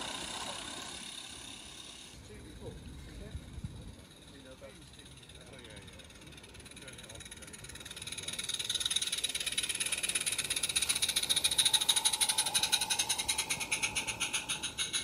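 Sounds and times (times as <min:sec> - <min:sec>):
model steam train running: 0:00.0 - 0:15.0.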